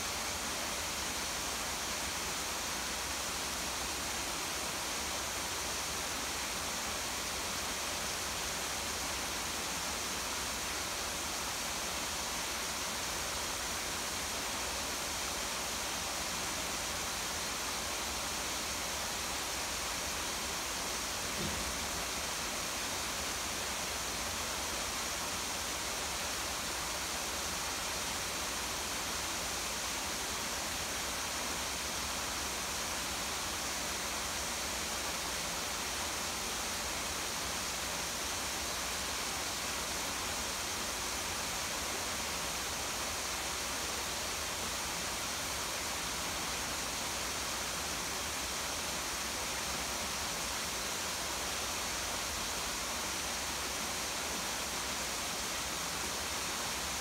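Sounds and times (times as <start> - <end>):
rainfall: 0.0 - 57.0.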